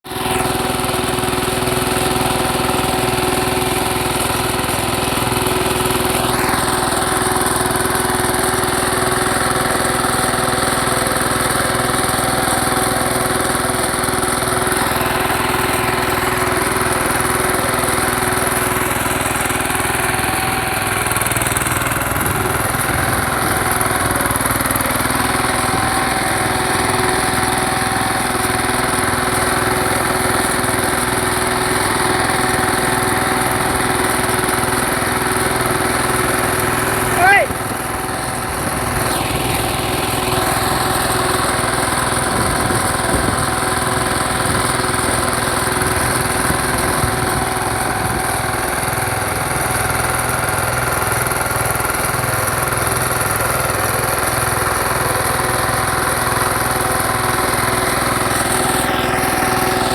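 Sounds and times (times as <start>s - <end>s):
power tiller engine running: 0.0s - 59.9s.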